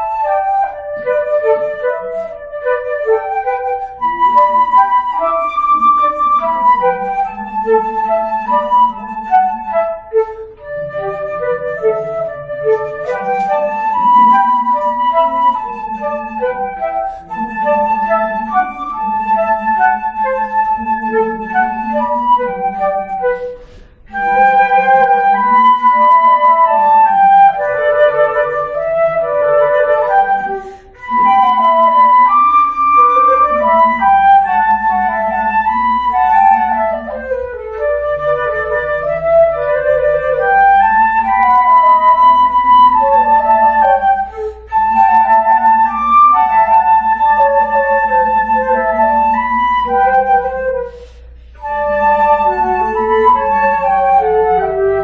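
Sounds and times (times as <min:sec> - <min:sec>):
two flutes playing melody: 0:00.0 - 0:55.0.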